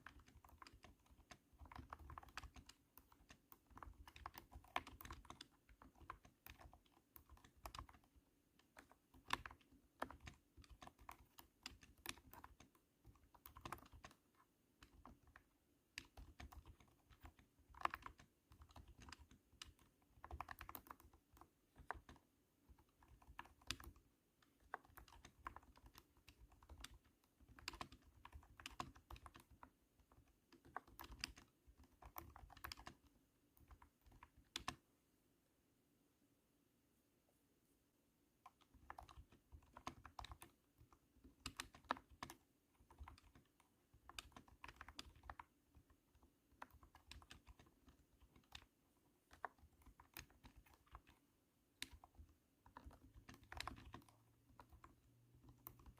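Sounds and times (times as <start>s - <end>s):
thunky keyboard keystrokes: 0.0s - 34.8s, 38.4s - 51.2s, 51.8s - 55.9s.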